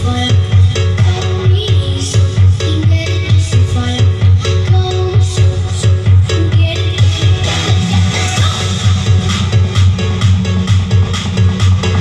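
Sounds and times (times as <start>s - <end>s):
electronic dance music: 0.0s - 12.0s
heavy pulsing bass beat: 0.0s - 12.0s.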